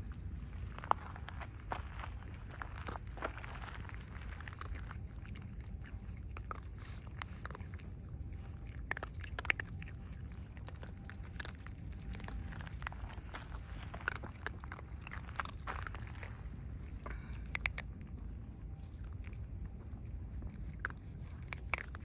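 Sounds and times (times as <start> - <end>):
animals crunching dry food: 0.0 - 22.0
low steady rumble: 0.0 - 22.0
paws padding over gravel: 0.0 - 22.0.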